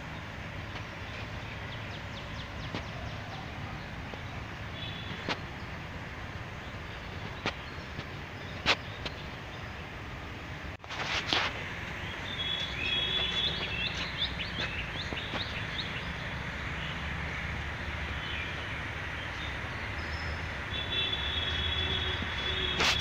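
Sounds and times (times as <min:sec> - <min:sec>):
small birds chirping: 0:00.0 - 0:10.2, 0:11.8 - 0:23.0
low traffic rumble: 0:00.0 - 0:23.0.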